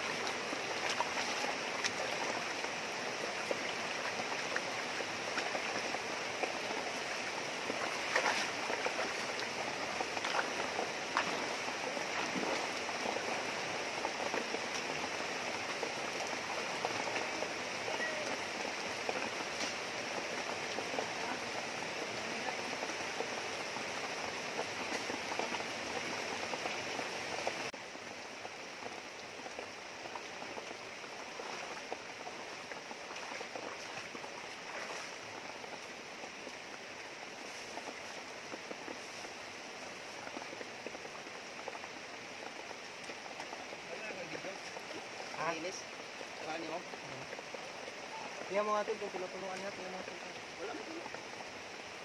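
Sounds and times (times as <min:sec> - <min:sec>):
river flowing over rocks: 0:00.0 - 0:52.0.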